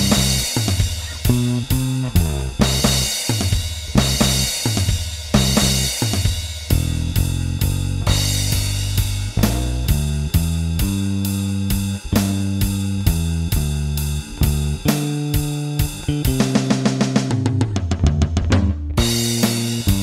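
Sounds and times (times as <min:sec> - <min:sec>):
drum kit beat: 0:00.0 - 0:20.0
electric bass guitar line: 0:00.0 - 0:20.0.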